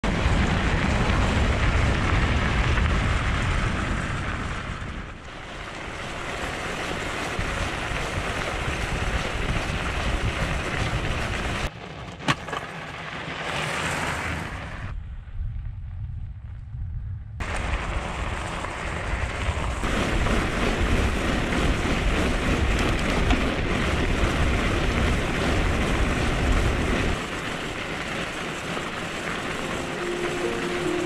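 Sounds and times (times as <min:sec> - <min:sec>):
wind buffeting microphone: 0:00.0 - 0:11.7, 0:14.5 - 0:31.0.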